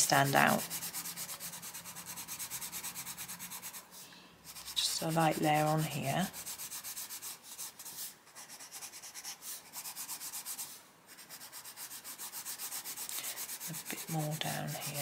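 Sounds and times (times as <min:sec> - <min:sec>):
coloured pencil scratching paper: 0:00.0 - 0:15.0.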